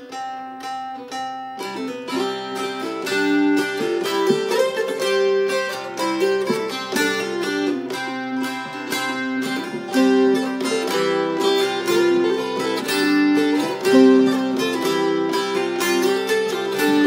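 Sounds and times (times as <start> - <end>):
dulcimers plucking a melody: 0.0 - 17.0.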